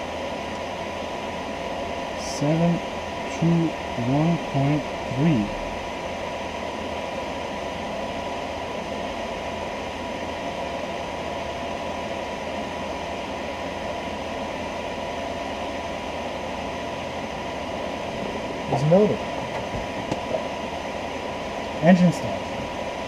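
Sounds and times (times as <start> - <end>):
steady electrical hiss: 0.0 - 23.0
thin constant whine: 0.0 - 23.0.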